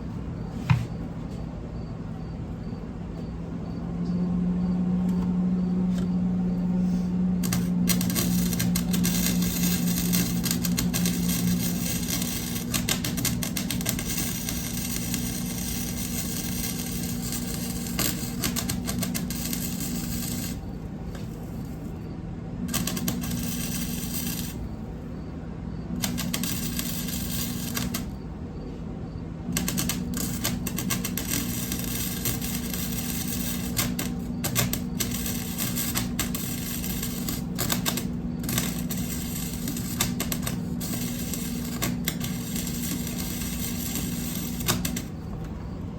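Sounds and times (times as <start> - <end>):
steady low hum: 0.0 - 45.9
arc welder crackling: 5.0 - 45.9.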